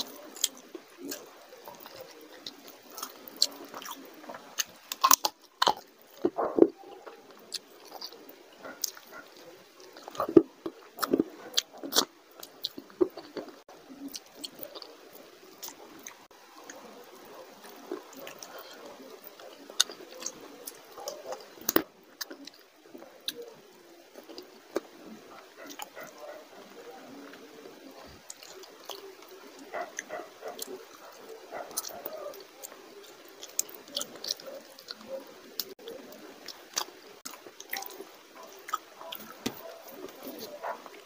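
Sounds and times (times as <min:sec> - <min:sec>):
man chewing wet food: 0:00.0 - 0:41.0
sharp chewing clicks: 0:00.0 - 0:41.0.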